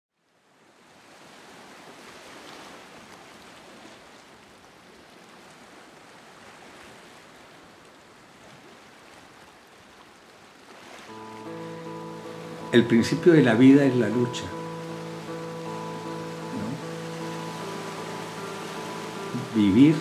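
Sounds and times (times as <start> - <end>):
waves breaking on shore: 0.3 - 20.0.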